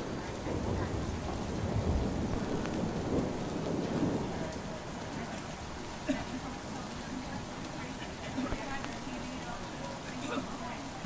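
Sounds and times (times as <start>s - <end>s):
thunder rumble: 0.0s - 9.8s
rain on a roof: 0.0s - 11.0s.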